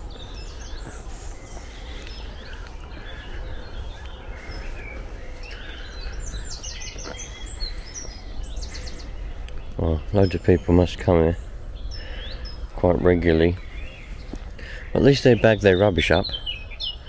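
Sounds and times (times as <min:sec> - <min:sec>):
steady low rumble: 0:00.0 - 0:15.0
small birds chirping and trilling: 0:00.0 - 0:17.0.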